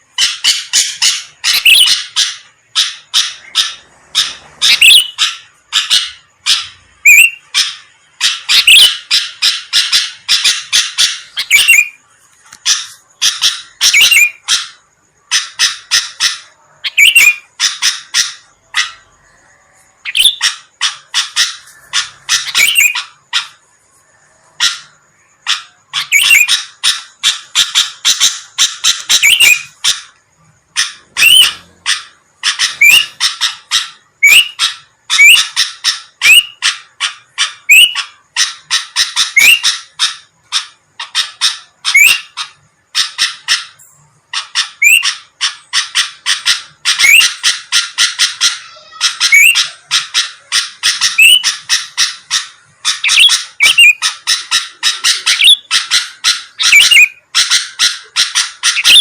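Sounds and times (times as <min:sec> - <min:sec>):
bulbul singing: 0:00.0 - 0:59.0.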